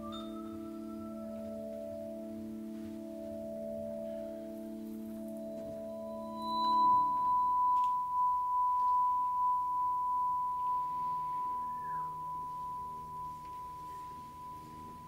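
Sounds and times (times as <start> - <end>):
high pure ringing tone: 0.0 - 2.8, 3.4 - 15.0
faint low sustained notes: 0.0 - 15.0.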